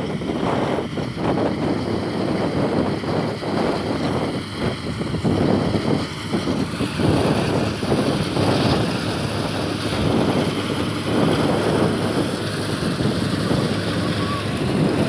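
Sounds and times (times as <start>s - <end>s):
combine harvester drone: 0.0s - 15.0s
wind on microphone: 0.0s - 15.0s.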